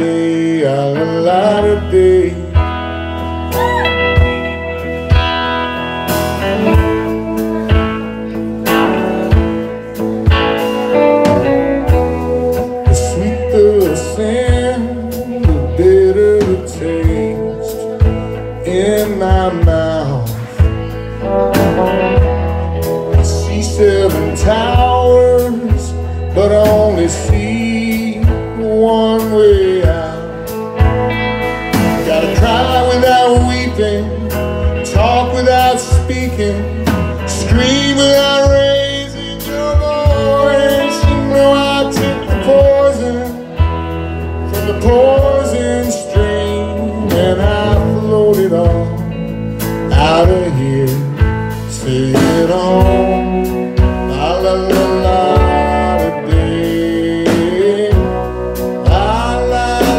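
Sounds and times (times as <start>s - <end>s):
live blues band playing: 0.0s - 59.9s.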